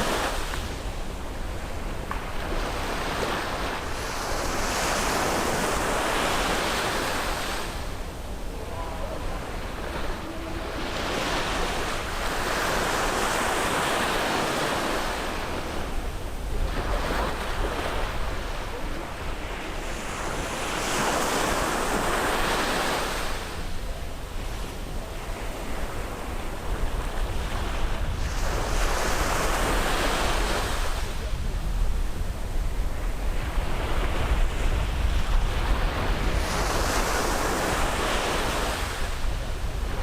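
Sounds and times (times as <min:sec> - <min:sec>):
sea waves breaking on beach: 0:00.0 - 0:40.0.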